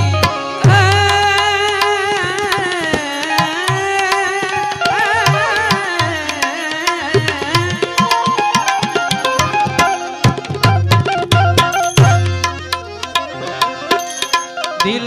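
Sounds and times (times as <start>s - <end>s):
devotional melody with wavering pitch: 0.0s - 15.0s
sharp percussion clicks: 0.0s - 15.0s
tabla keeping time: 0.0s - 15.0s.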